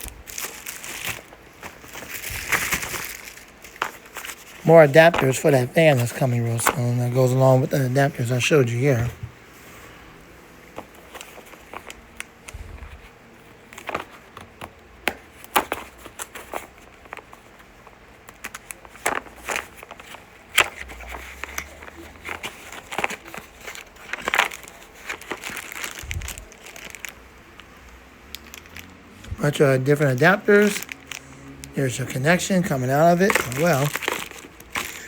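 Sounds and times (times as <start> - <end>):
packaging crinkling: 0.0 - 9.1, 10.8 - 12.6, 13.6 - 35.0.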